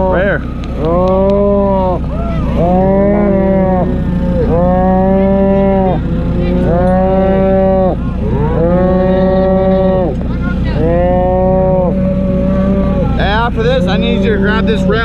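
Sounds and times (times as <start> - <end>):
calf bawling: 0.0 - 15.0.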